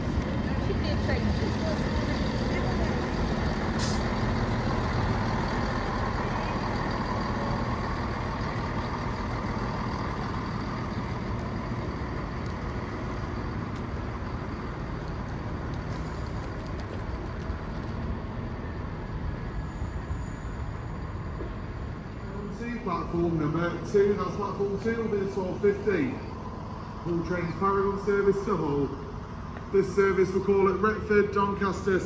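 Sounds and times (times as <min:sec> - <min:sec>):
train humming and rumbling: 0:00.0 - 0:32.0.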